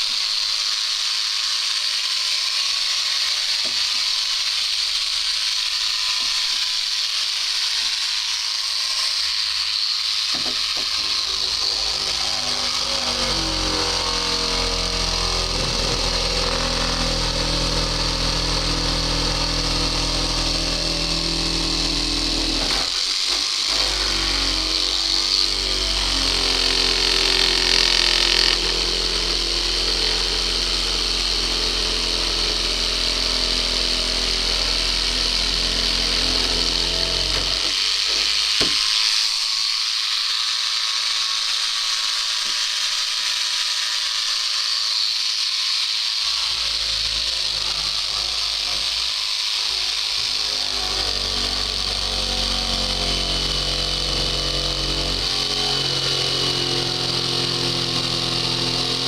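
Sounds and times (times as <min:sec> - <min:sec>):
electric drill boring into wood: 0:00.0 - 0:59.0.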